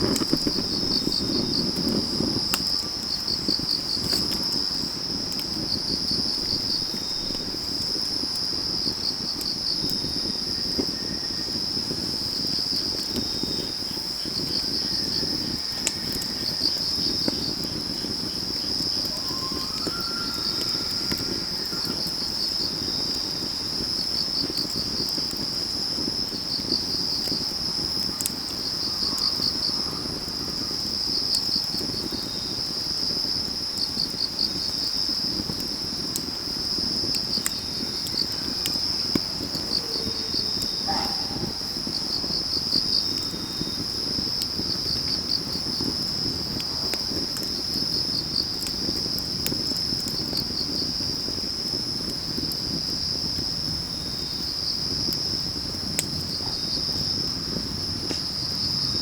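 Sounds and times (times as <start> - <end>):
crickets chirping: 0.0 - 59.0
wood fire crackling and popping: 0.0 - 59.0.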